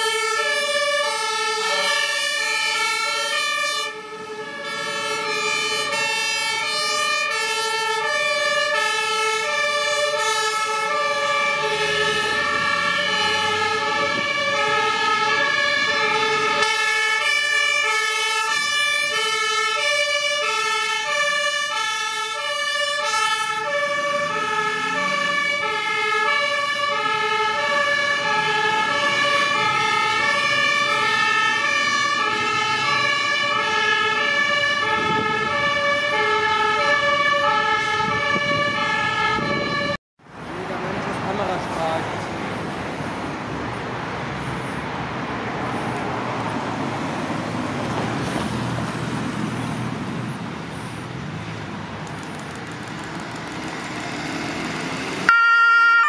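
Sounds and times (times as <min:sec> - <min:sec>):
truck diesel engines: 0:00.0 - 0:56.0
two-tone fire engine sirens: 0:00.0 - 0:56.0.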